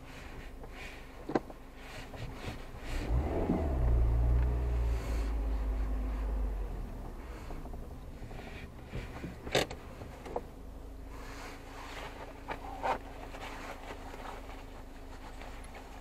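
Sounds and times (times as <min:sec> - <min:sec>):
car engine idling hum: 0:00.0 - 0:16.0.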